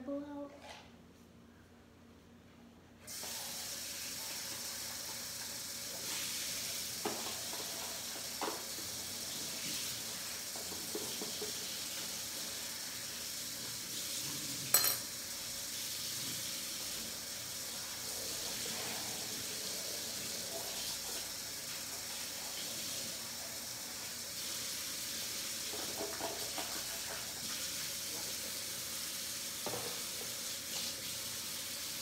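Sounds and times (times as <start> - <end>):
tap water running into sink: 3.1 - 32.0.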